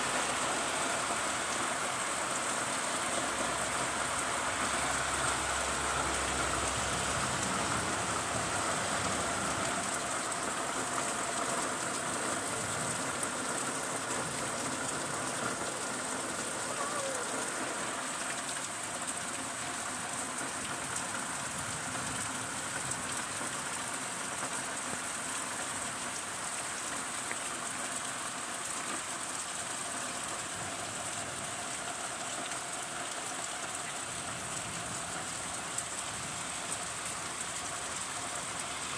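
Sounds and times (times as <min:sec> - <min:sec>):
heavy rain on the ground: 0:00.0 - 0:38.9.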